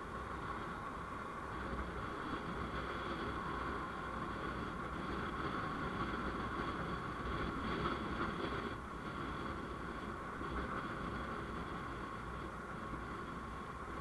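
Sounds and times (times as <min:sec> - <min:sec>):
constant whine: 0:00.0 - 0:14.0
road and wind noise: 0:00.0 - 0:14.0
vehicle engine hum: 0:00.0 - 0:14.0.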